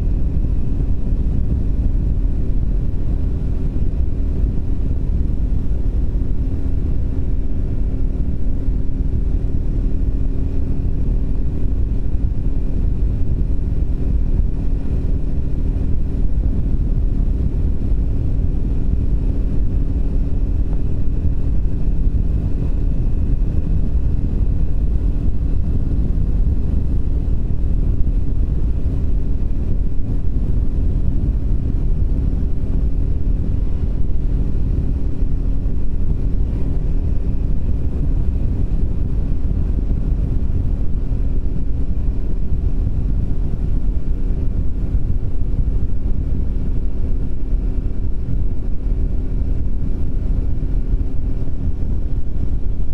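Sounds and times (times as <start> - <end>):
single-cylinder engine cruising: 0.0 - 52.9
wind and road noise: 0.0 - 52.9.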